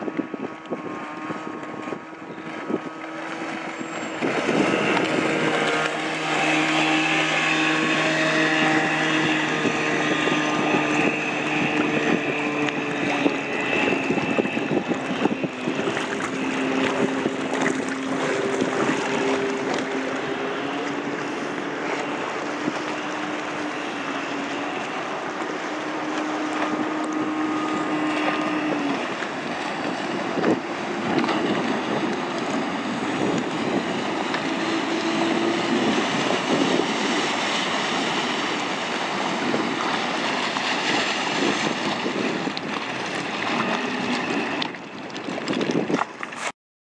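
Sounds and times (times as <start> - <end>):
speedboat engine running: 0.0 - 46.5
wind on microphone: 0.0 - 46.5
water noise: 0.0 - 46.6.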